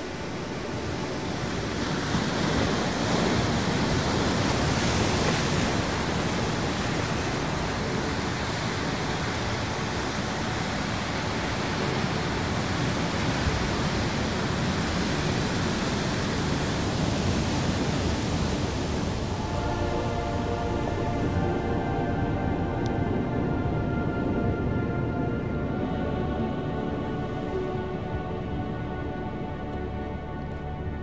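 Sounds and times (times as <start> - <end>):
ocean surf breaking: 0.0 - 28.8.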